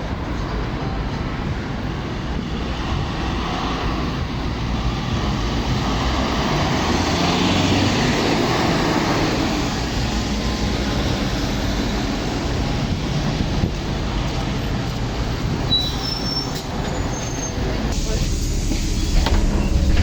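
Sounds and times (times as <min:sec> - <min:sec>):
bus diesel engine rumble: 0:00.0 - 0:20.0
road noise: 0:00.0 - 0:20.0.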